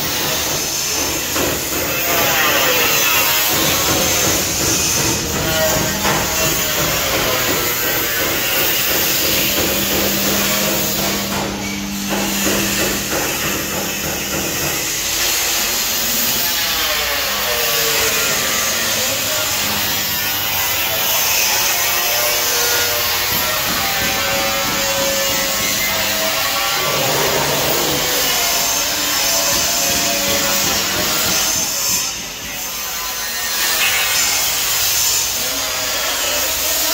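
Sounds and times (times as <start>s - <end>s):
power tool grinding steel: 0.0s - 36.9s.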